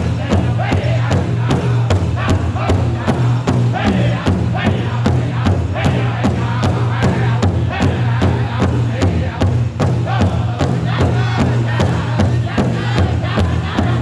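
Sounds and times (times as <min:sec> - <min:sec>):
group singing a high chant: 0:00.0 - 0:14.0
large drum beating: 0:00.0 - 0:14.0.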